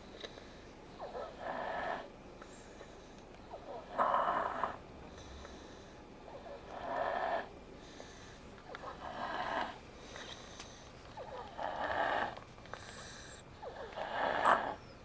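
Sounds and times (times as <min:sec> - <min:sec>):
quiet breathing: 0:00.0 - 0:15.0.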